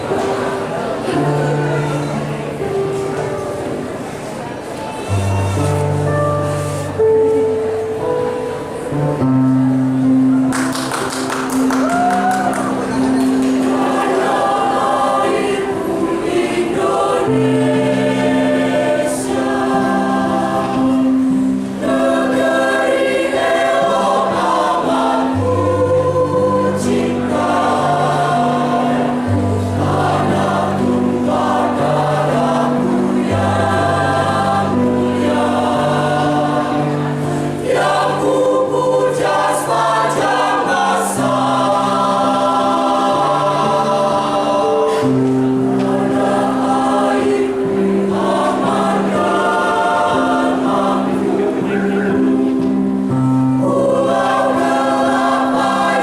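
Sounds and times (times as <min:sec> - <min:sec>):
choir singing: 0:00.0 - 0:07.2, 0:12.2 - 0:56.0.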